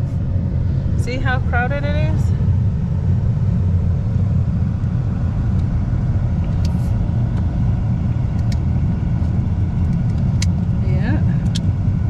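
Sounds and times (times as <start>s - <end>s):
car engine and tyres droning: 0.0s - 12.0s.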